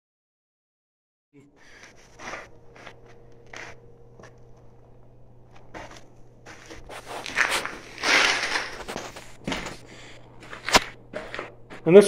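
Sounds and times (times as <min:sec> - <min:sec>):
steady low hum: 0:01.4 - 0:12.0
footsteps on gritty sandy floor: 0:01.7 - 0:04.8, 0:05.4 - 0:12.0.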